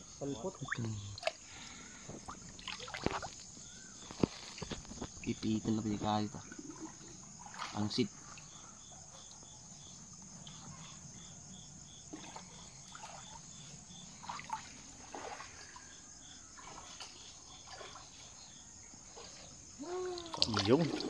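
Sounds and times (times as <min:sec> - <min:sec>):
insect chirping: 0:00.0 - 0:21.0
water trickling and splashing: 0:00.2 - 0:21.0.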